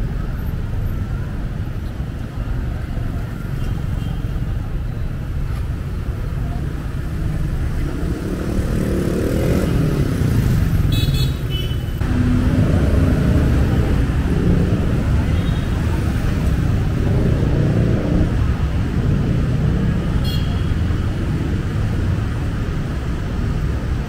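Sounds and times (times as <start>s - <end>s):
scooters and cars passing: 0.0s - 24.0s.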